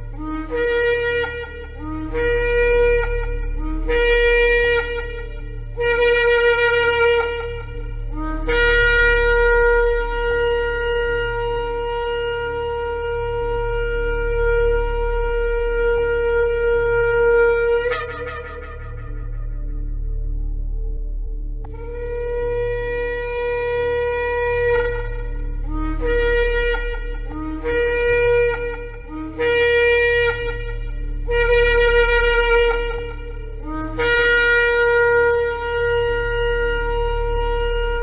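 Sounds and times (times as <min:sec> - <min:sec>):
ram's horn blasts: 0:00.0 - 0:38.0.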